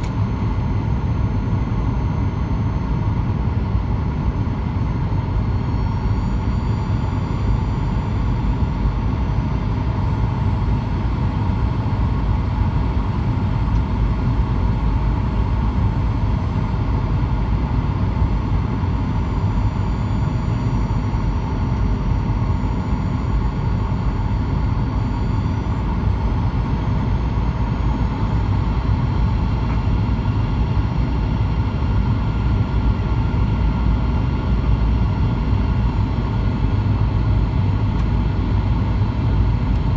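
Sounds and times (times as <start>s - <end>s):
jet engine hum: 0.0s - 39.9s.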